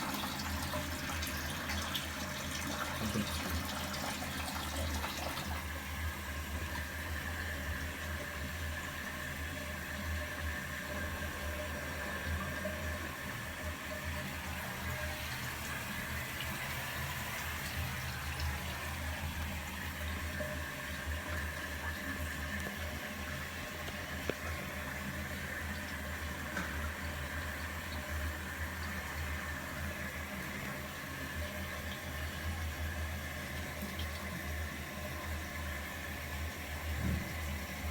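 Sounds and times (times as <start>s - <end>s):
water rushing in drain: 0.0s - 37.9s.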